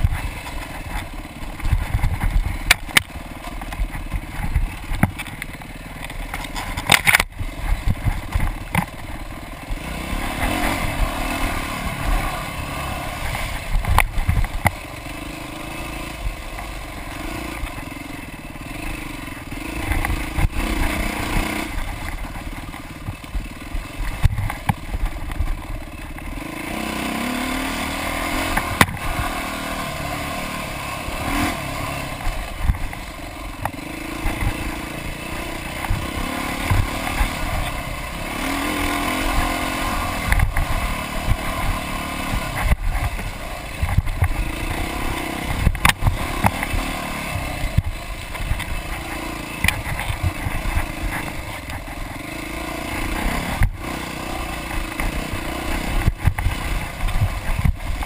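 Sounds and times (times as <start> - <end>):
motorcycle clattering over bumps: 0.0 - 58.0
motorcycle engine revving: 0.0 - 58.0.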